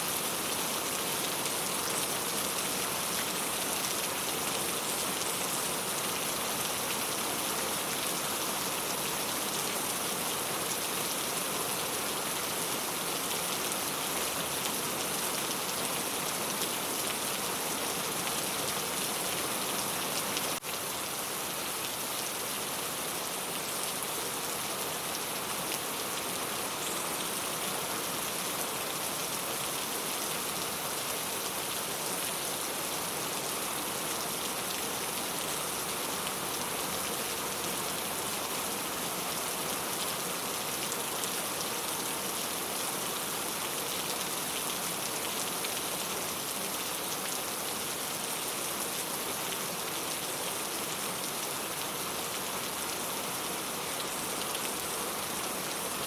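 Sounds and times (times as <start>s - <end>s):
rain on a tile roof: 0.0s - 56.0s.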